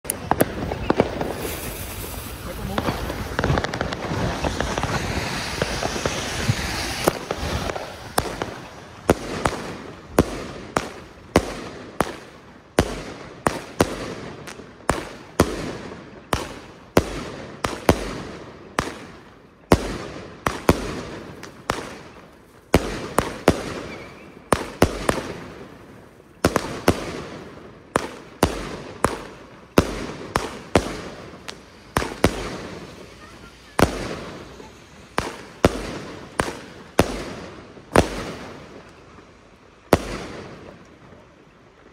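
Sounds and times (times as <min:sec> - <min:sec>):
firework bangs and pops: 0:00.0 - 0:41.9
firework hissing: 0:00.1 - 0:11.3, 0:12.0 - 0:40.7.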